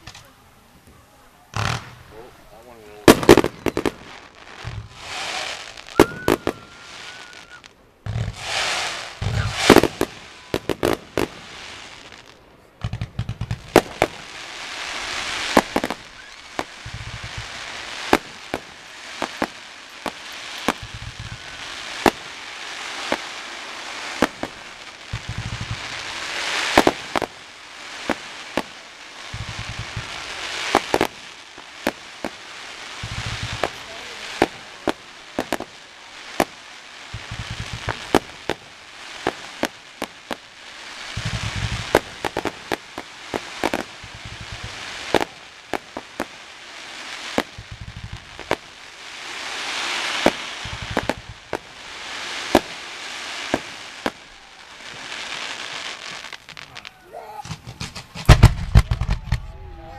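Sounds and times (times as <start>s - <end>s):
crackle of burning fireworks: 0.0s - 59.9s
fireworks bangs: 0.0s - 59.9s.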